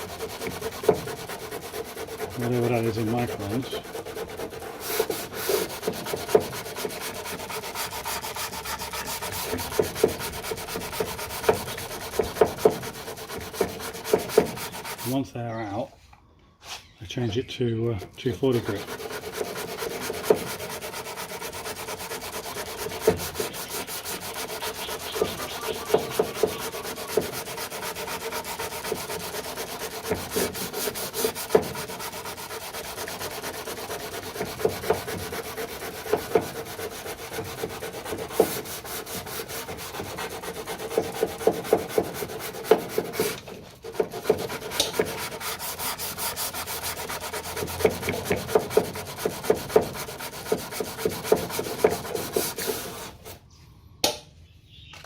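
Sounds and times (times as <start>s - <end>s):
sandpaper rubbing on filler: 0.0s - 15.2s, 18.0s - 53.4s.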